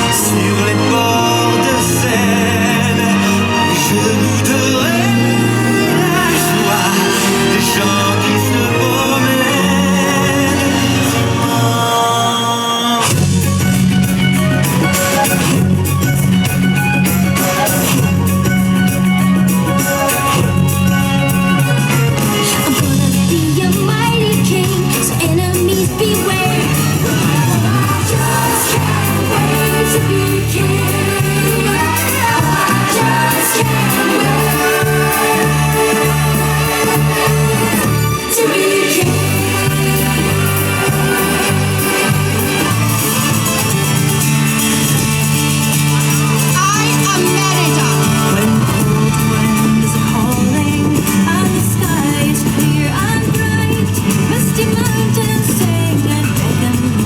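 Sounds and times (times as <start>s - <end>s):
song with repeating bass line: 0.0s - 57.0s.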